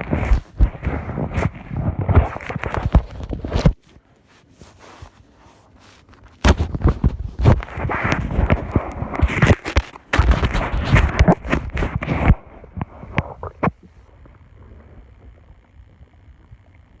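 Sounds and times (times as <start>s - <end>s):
stomach growling: 0.0s - 3.8s, 6.4s - 17.0s.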